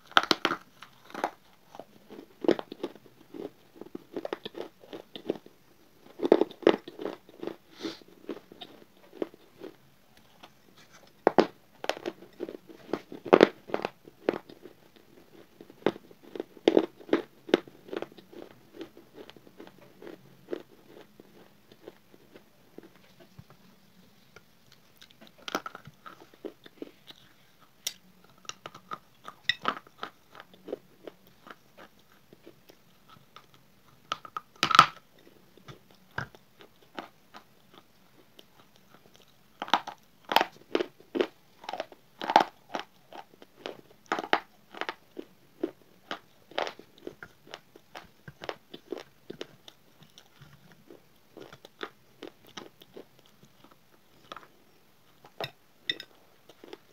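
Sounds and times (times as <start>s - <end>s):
person crunching and chewing: 0.0s - 23.3s, 24.7s - 56.9s.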